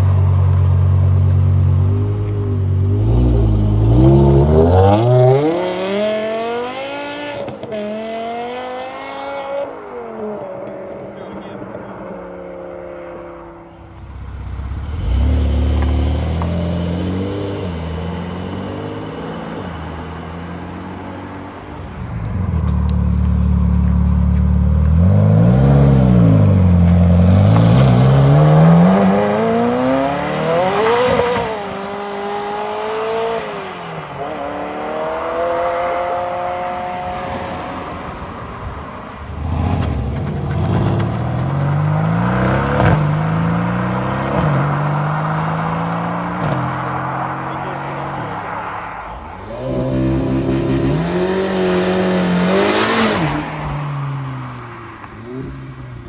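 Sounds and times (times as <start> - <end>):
sports car engines revving: 0.0 - 56.0.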